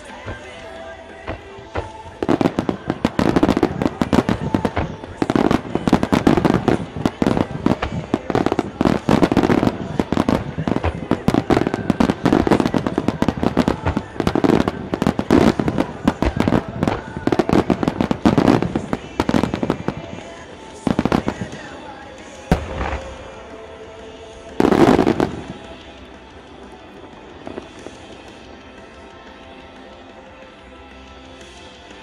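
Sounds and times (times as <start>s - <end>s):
fireworks bursting and crackling: 0.0s - 32.0s.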